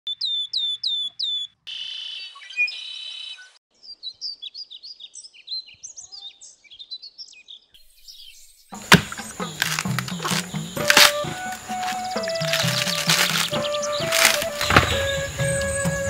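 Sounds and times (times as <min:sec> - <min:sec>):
birds chirping and singing: 0:00.1 - 0:16.0.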